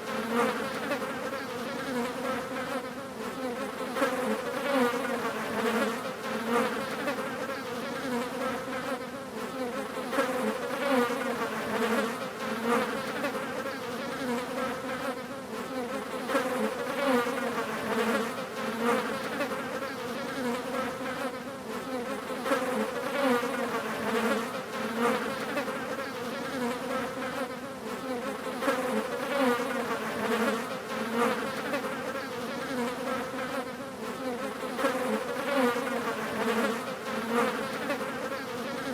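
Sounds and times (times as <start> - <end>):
flies buzzing: 0.0 - 38.9.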